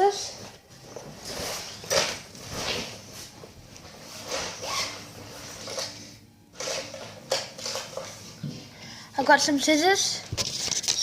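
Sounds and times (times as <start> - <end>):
rustling and scraping rummaging: 0.0 - 8.8, 10.2 - 11.0.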